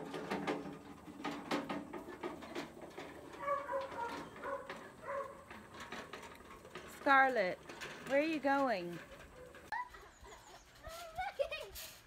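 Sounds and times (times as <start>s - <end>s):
metal toy wagon rattling: 0.0s - 11.5s.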